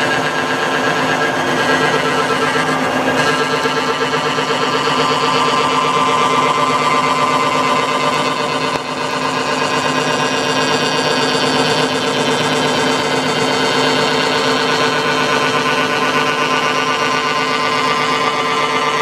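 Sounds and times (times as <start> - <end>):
milling machine hum: 0.0 - 19.0.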